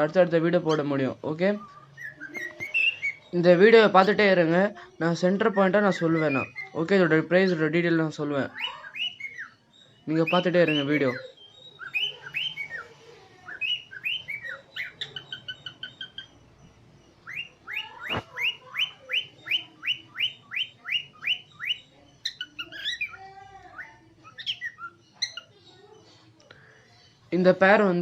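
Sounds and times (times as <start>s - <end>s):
cockatiels chirping: 0.5s - 7.6s, 8.4s - 27.3s.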